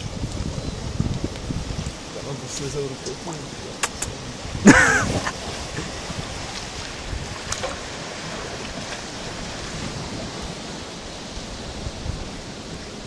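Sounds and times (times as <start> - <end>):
seal flippers splashing water: 0.0 - 13.0
surf and moving water: 0.0 - 13.0.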